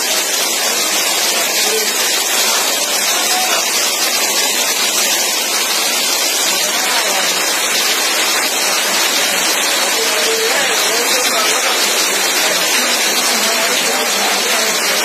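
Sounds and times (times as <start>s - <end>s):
heavy rainstorm: 0.0s - 15.0s.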